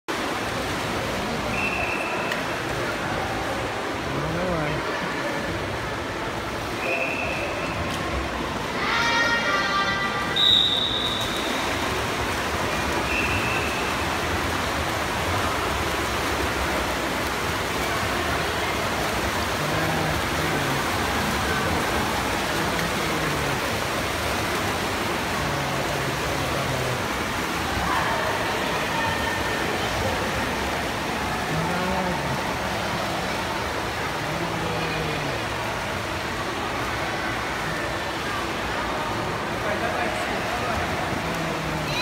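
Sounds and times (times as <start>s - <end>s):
swimmers splashing: 0.1s - 42.0s
crowd noise echoing: 0.2s - 42.0s.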